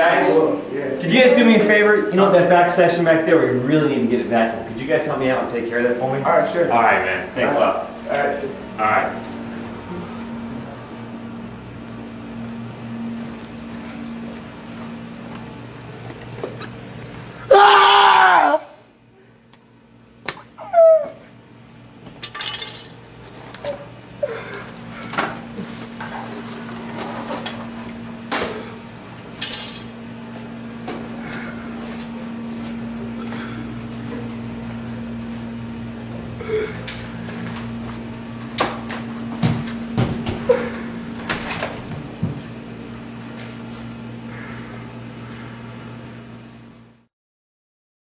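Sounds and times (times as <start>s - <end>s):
steady low hum: 0.0s - 47.1s.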